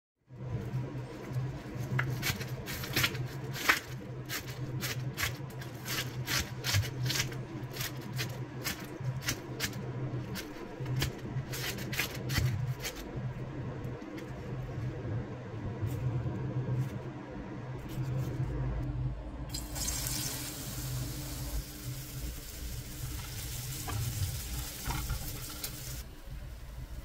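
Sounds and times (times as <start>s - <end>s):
steady low hum: 0.3s - 27.0s.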